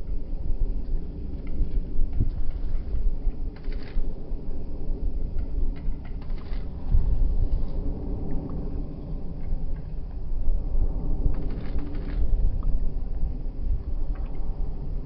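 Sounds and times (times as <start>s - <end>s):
distant jet airliner rumble: 0.0s - 15.0s
wind buffeting microphone: 0.0s - 15.0s.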